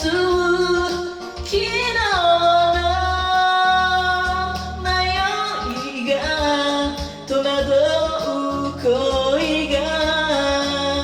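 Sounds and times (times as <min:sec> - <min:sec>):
backing track music: 0:00.0 - 0:11.0
person singing karaoke: 0:00.0 - 0:11.0.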